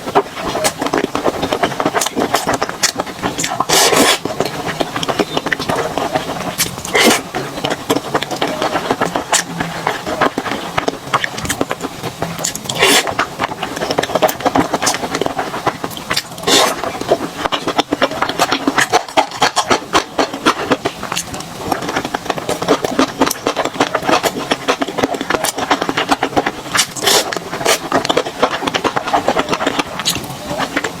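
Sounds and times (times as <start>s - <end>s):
chewing and smacking: 0.0s - 31.0s
crunchy bites: 0.2s - 31.0s.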